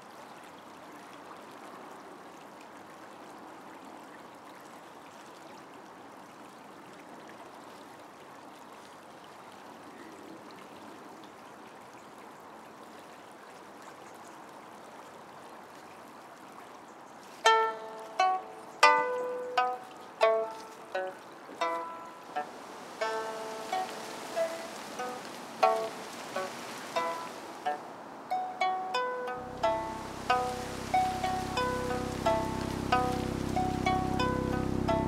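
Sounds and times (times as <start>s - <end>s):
flowing river water: 0.0s - 35.0s.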